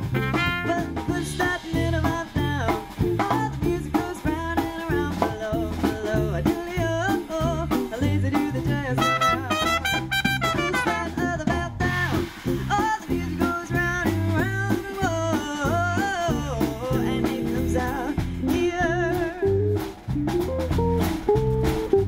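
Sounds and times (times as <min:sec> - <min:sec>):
bass guitar: 0:00.0 - 0:22.0
drum kit: 0:00.0 - 0:22.0
swing band playing: 0:00.0 - 0:22.0
woman singing into a microphone: 0:00.6 - 0:09.6, 0:10.8 - 0:19.6.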